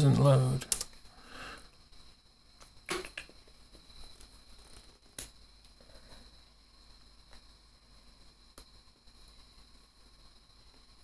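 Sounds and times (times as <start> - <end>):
faint steady high whine: 0.0 - 11.0.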